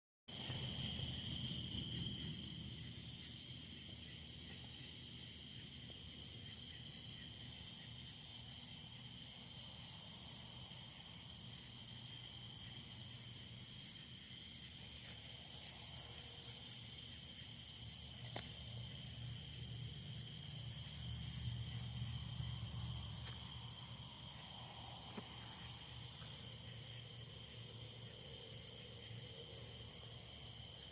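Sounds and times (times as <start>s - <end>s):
crickets trilling: 0.3s - 30.9s.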